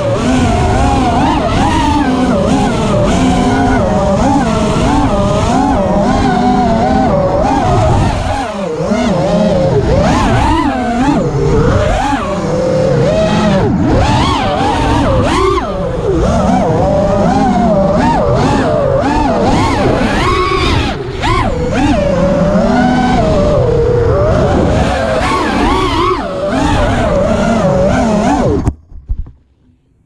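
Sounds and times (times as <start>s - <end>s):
small electric motors whining: 0.0s - 28.8s.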